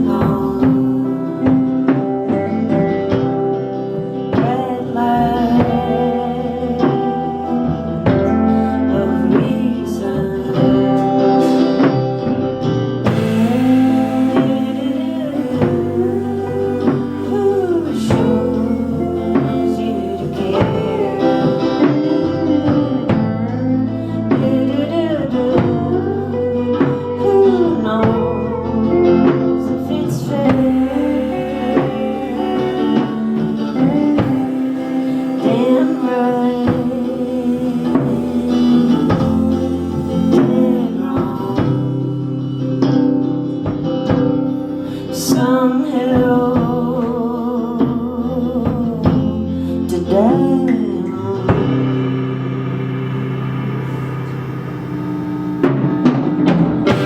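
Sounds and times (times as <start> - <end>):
live band playing: 0.0 - 57.0
person singing: 0.0 - 57.0.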